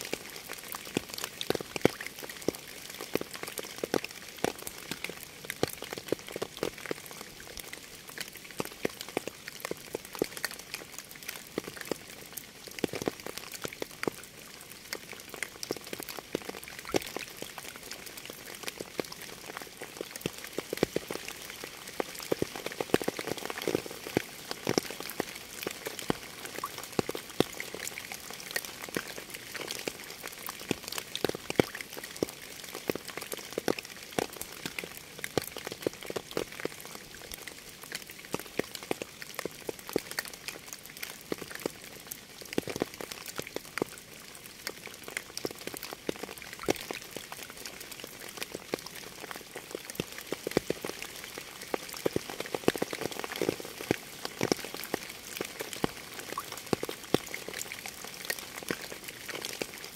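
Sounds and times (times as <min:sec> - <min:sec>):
rain falling: 0:00.0 - 0:59.9
raindrops ticking: 0:00.1 - 0:59.9.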